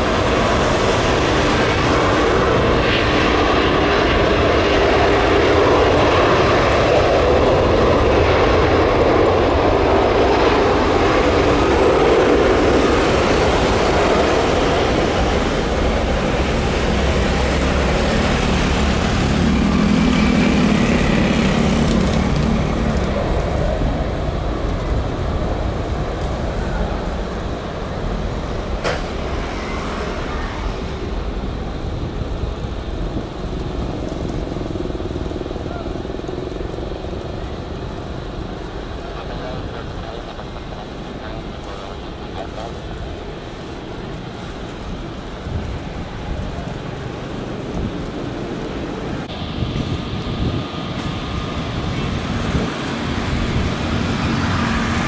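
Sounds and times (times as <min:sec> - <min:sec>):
jet engines at takeoff power: 0:00.0 - 0:55.0.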